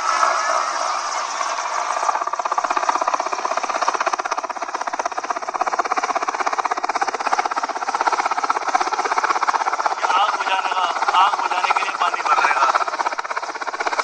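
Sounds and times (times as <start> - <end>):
helicopter rotor chopping: 0.0 - 14.0.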